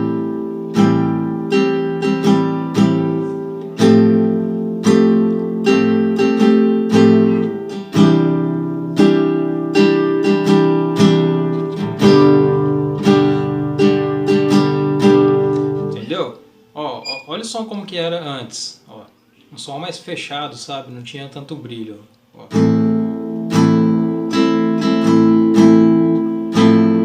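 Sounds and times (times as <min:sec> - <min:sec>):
acoustic guitar strumming: 0:00.0 - 0:17.6, 0:22.5 - 0:27.0.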